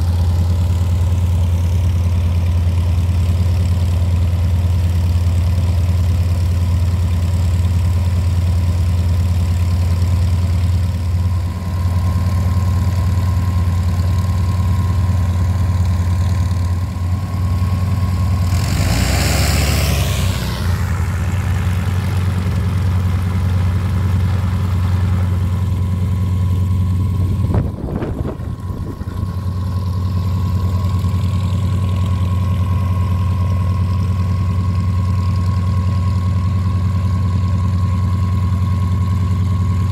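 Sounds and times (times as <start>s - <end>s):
radial aircraft engine idling: 0.0s - 39.9s.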